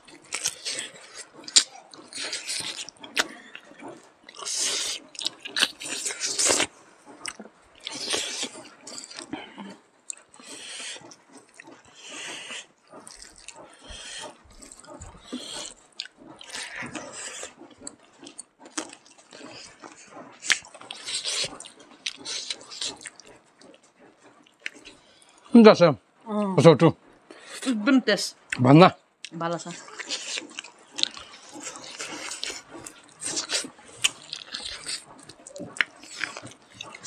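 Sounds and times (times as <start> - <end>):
wet chewing and lip-smacking: 0.0 - 25.6, 27.0 - 37.0.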